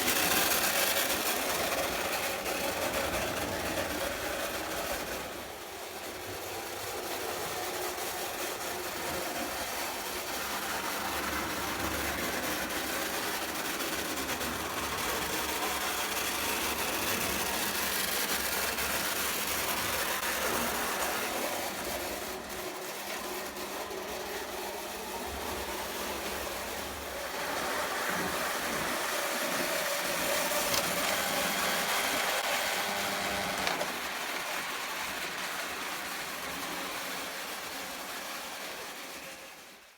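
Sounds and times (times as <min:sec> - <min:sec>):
model train running on track: 0:00.0 - 0:39.9.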